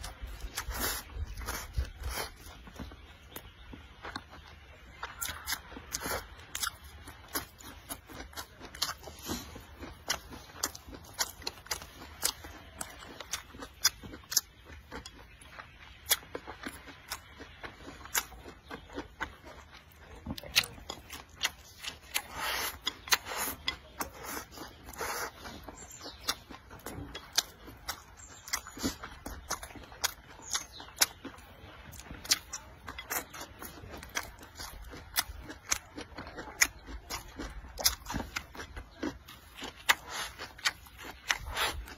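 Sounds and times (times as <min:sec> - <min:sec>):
man chewing and lip smacking: 0:00.0 - 0:41.9.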